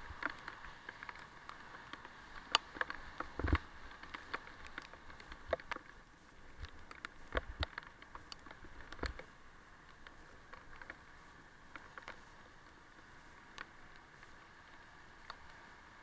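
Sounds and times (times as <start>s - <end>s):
faint steady hiss: 0.0s - 16.0s
raindrops tapping on camera: 0.0s - 16.0s.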